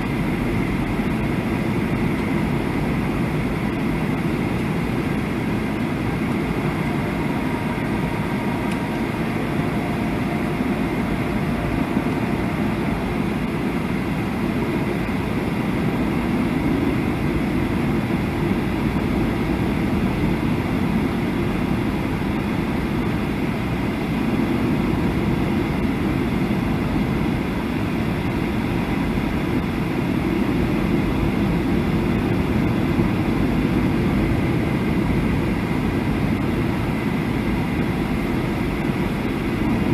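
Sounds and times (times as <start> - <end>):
airplane cabin jet engine rumble: 0.0 - 39.9.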